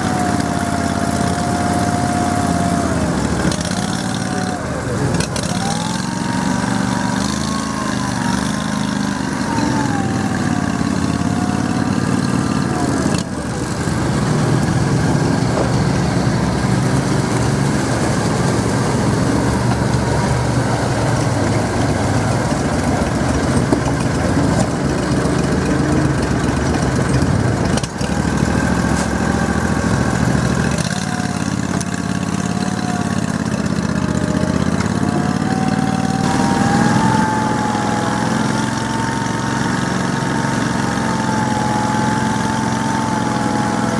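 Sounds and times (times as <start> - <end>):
engines running and revving: 0.0 - 43.9.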